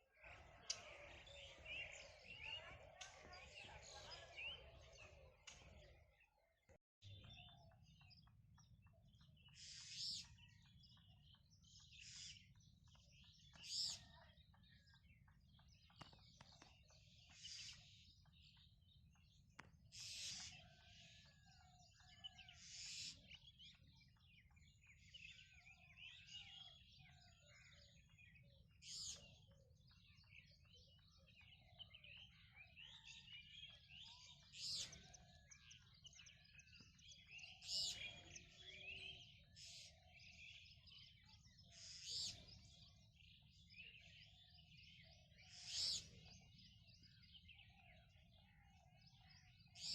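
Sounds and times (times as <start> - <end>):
birds chirping and calling: 0.0 - 6.2, 7.1 - 49.9.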